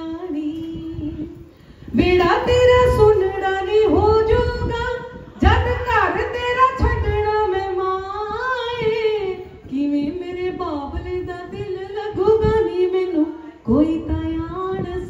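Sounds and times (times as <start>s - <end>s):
woman singing slow song: 0.0s - 15.0s.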